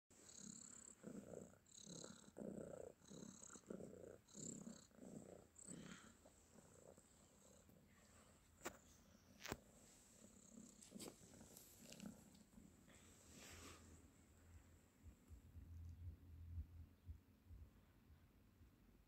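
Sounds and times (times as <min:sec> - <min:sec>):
cat purring: 0:00.2 - 0:17.1.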